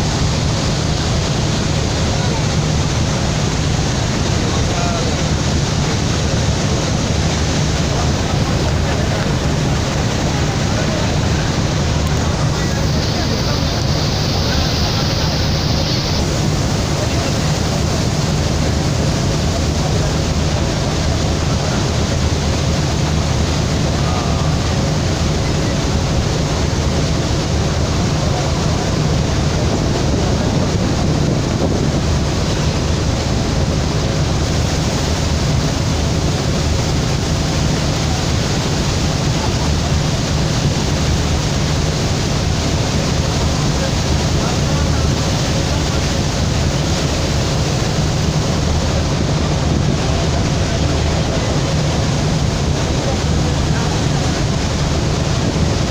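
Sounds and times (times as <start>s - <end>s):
low engine drone: 0.0s - 55.9s
rush of wind and water: 0.0s - 55.9s.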